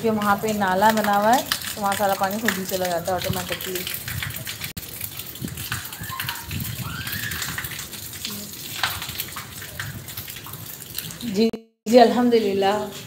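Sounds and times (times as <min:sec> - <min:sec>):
rain pattering on hard surface: 0:00.0 - 0:11.5.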